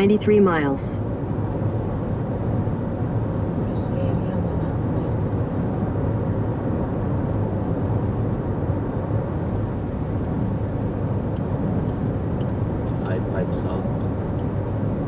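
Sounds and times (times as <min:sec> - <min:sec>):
car road noise at highway speed: 0:00.0 - 0:15.0.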